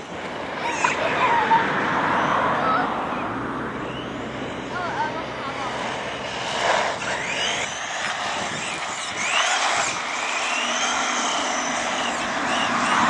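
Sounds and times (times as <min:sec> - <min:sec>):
electric motor whining: 0:00.0 - 0:13.0
tyres rushing on asphalt: 0:00.0 - 0:13.0.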